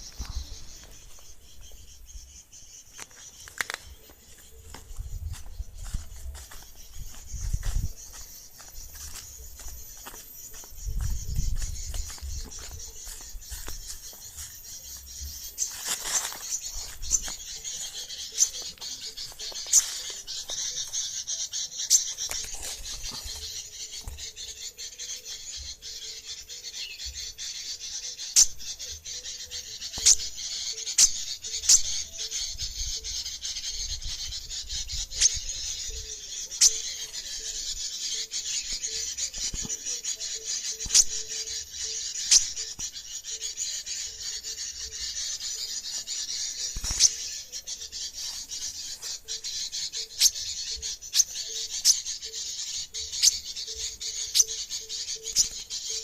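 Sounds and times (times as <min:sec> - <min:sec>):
songbirds chattering calls: 0:00.0 - 0:56.0.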